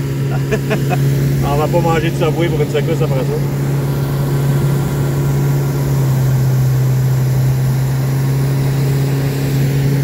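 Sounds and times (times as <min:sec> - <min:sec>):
outboard motor drone: 0:00.0 - 0:10.0
water rushing past hull: 0:00.0 - 0:10.0.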